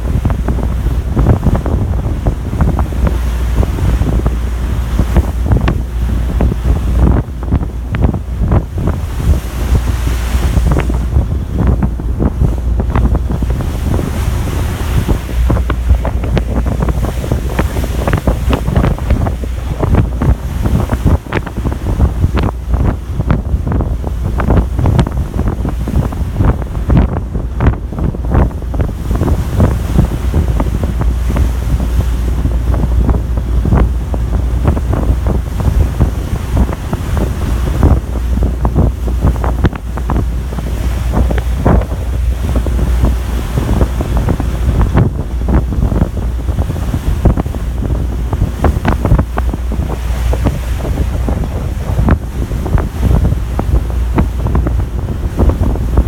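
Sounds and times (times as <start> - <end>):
deep rumble of wind and sea: 0.0 - 56.0
wind buffeting microphone: 0.0 - 56.0.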